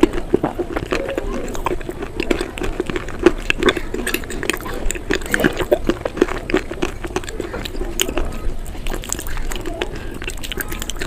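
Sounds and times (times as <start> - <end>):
crunchy food being crunched: 0.0 - 11.0.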